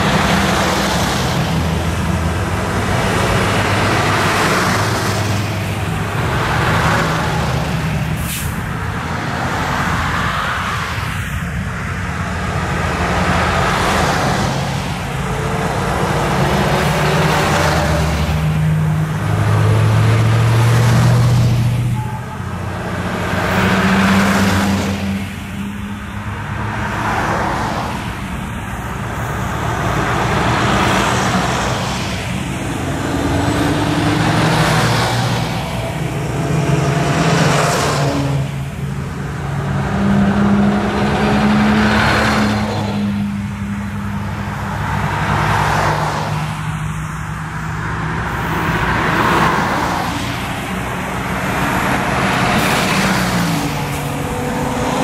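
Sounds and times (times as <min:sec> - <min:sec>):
diesel engine: 0:00.0 - 0:55.0
fire engines driving past: 0:00.0 - 0:55.0.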